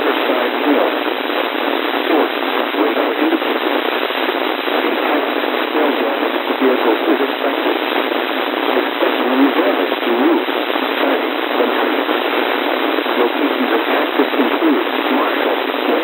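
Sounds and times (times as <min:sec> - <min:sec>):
faint radio voice: 0:00.0 - 0:16.0
radio static hiss: 0:00.0 - 0:16.0.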